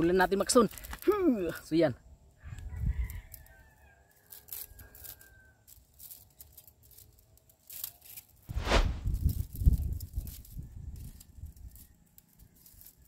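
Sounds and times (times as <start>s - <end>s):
wire strands clicking and scraping: 0.0s - 1.3s, 2.6s - 13.0s
rough rustling of wire cable: 0.0s - 1.4s, 2.5s - 13.0s.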